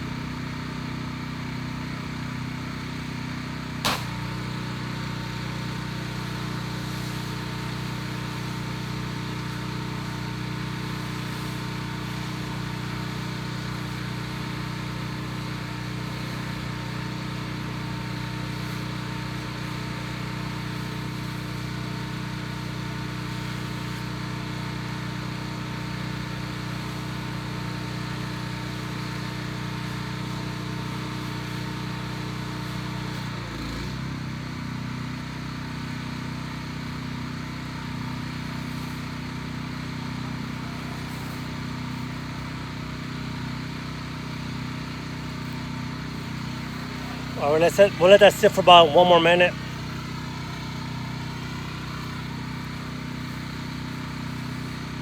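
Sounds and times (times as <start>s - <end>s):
pressure washer engine running: 0.0s - 55.0s.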